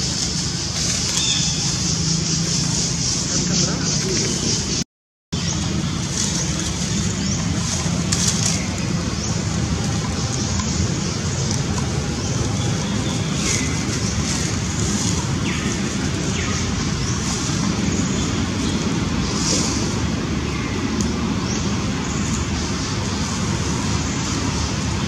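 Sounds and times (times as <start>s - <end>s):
distant road traffic rush: 0.0s - 25.0s.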